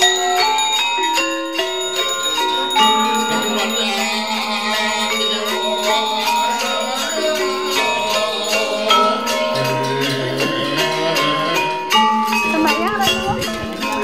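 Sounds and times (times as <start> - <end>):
bell-like struck notes: 0.0 - 14.0
steady low held tone: 0.0 - 14.0.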